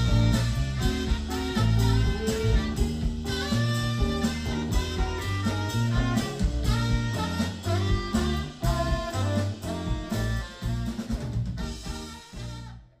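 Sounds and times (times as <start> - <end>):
electric guitar: 0.0 - 12.7
electric bass: 0.0 - 13.0
saxophone: 0.0 - 13.0
steady drum beat: 0.0 - 13.0.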